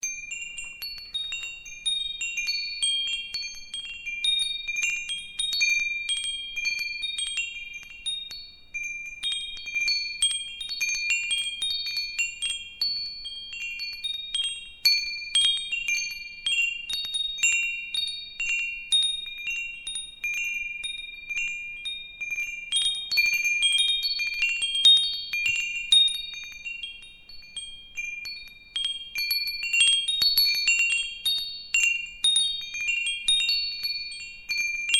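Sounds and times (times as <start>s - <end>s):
wind chimes ringing: 0.0s - 34.9s.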